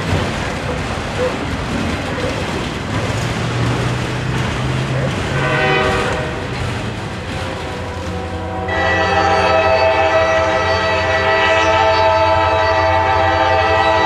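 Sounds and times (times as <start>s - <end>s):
train wheels rumbling and rattling: 0.0s - 14.0s.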